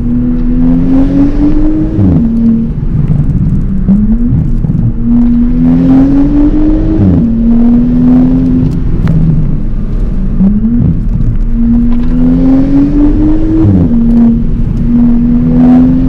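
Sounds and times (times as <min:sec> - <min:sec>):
loud car exhaust accelerating: 0:00.0 - 0:16.0.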